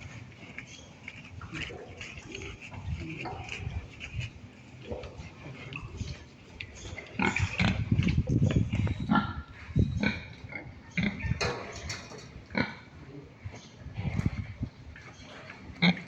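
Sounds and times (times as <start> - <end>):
pigs grunting: 0.0 - 16.0.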